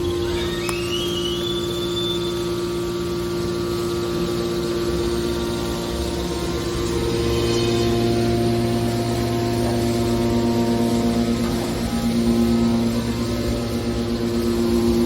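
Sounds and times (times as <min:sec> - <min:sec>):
hydraulic motor and pump humming: 0:00.0 - 0:15.0.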